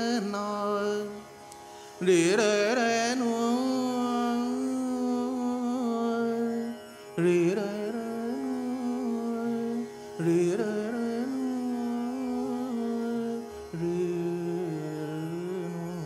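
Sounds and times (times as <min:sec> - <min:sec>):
man singing long notes: 0:00.0 - 0:01.3, 0:02.0 - 0:16.0
tanpura drone: 0:00.0 - 0:16.0.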